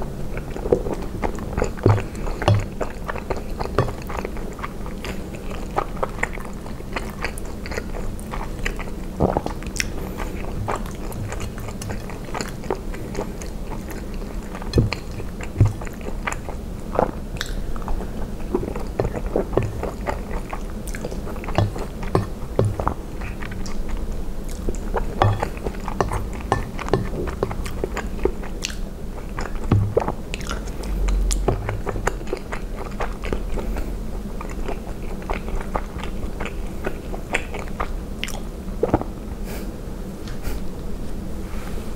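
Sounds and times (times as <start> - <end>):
close chewing and wet mouth sounds: 0.0 - 39.2.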